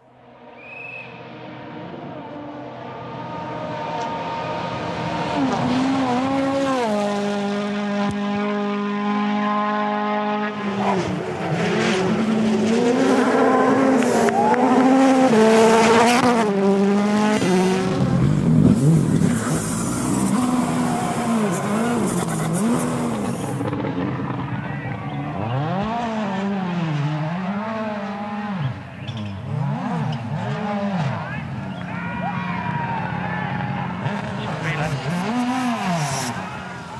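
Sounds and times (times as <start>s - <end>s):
rally car engine revving: 1.2s - 36.9s.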